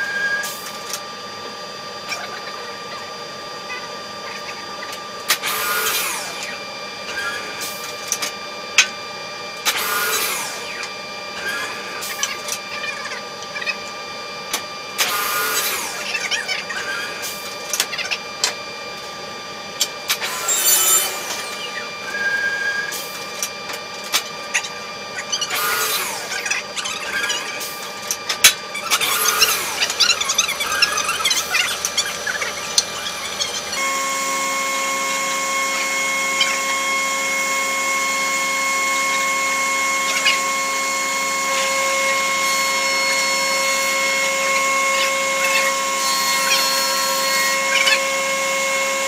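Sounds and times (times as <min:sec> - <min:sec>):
machine cutting wood: 0:00.0 - 0:49.0
woodworking machine whining: 0:00.0 - 0:49.0.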